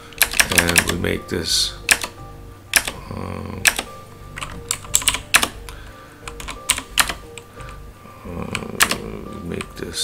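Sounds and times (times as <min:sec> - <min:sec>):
keyboard typing: 0:00.1 - 0:01.0, 0:01.8 - 0:07.8, 0:08.4 - 0:09.8.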